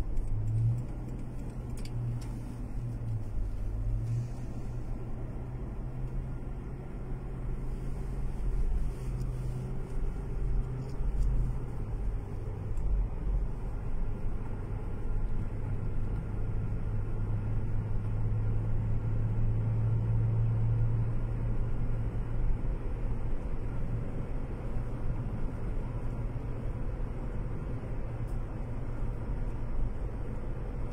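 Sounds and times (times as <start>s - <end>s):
car engine hum: 0.0s - 30.9s
road noise rumble: 0.0s - 30.9s.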